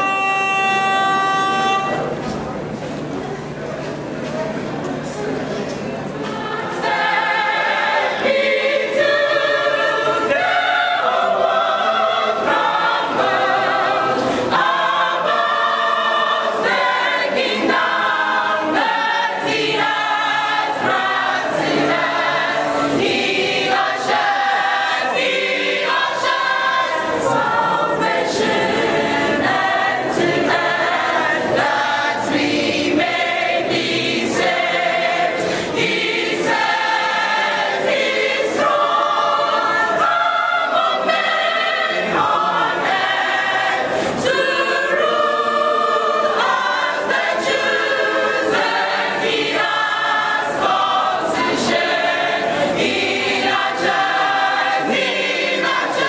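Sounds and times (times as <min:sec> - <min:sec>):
choir singing gospel song: 0:06.2 - 0:56.0.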